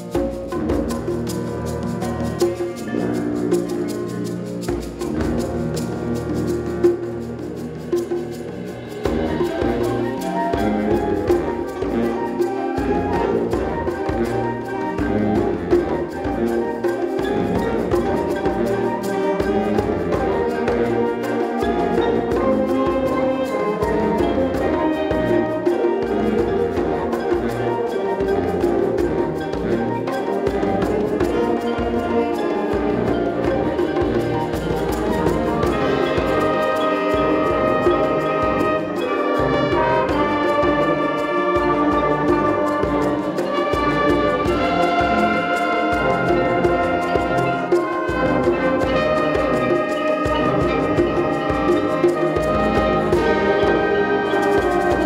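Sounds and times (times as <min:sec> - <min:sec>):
band playing brass: 0:00.0 - 0:55.0.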